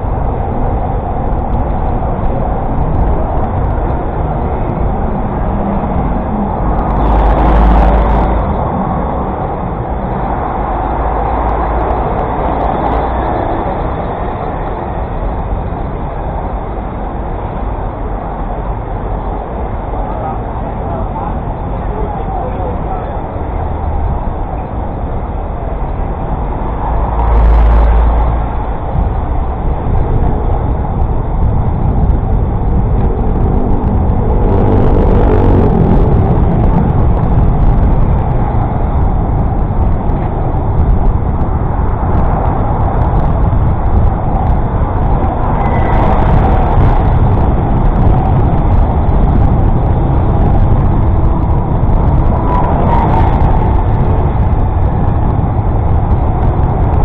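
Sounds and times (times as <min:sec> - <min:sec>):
motor vehicles rumbling: 0:00.0 - 0:57.0.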